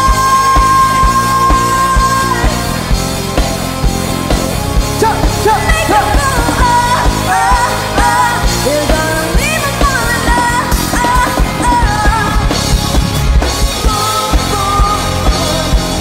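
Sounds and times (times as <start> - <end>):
woman singing: 0.0 - 2.9, 5.0 - 12.8, 13.6 - 16.0
live rock band: 0.0 - 16.0.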